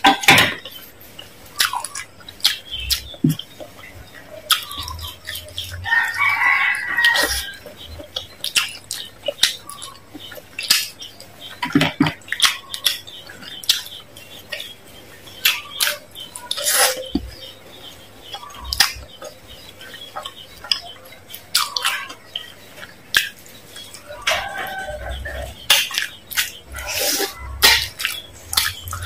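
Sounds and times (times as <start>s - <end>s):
biting and chewing: 0.2s - 14.8s, 15.4s - 29.0s.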